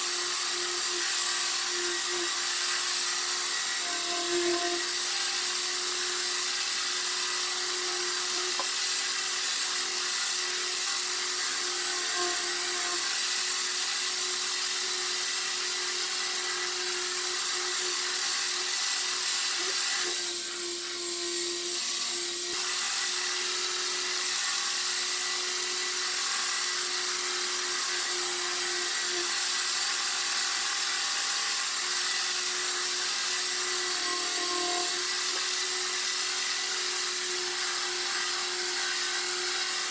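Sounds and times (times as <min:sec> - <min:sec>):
power sander running: 0:00.0 - 0:39.9.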